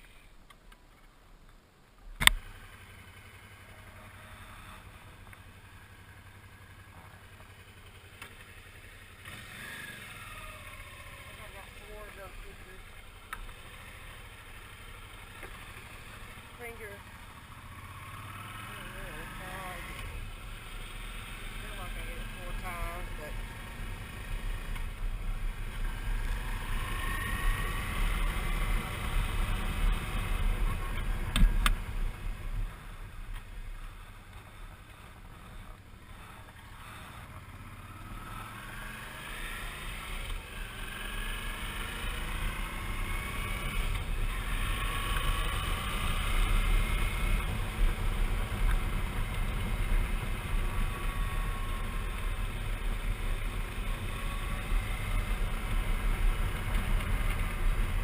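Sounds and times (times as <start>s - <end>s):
motorcycle engine running: 2.2s - 58.0s.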